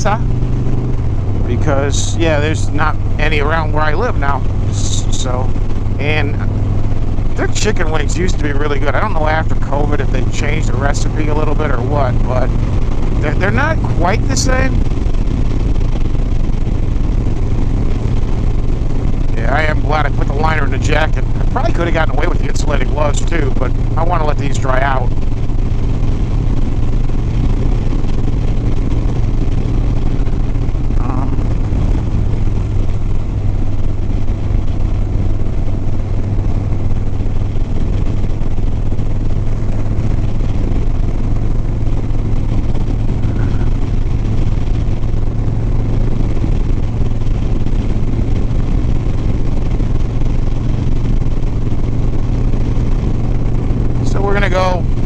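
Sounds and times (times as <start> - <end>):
motorcycle engine cruising: 0.0 - 55.0
wind noise: 0.0 - 55.0.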